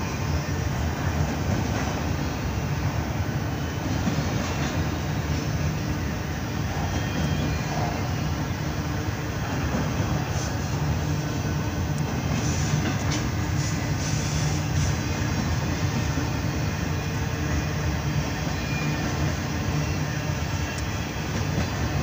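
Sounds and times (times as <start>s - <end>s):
freight train rolling on rails: 0.0s - 22.0s.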